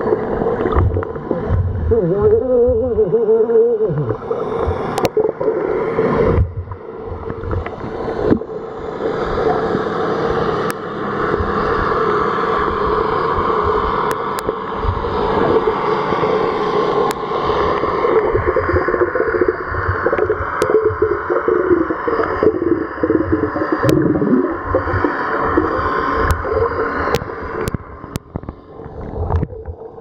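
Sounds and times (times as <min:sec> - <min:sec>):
underwater water rush: 0:00.0 - 0:30.0.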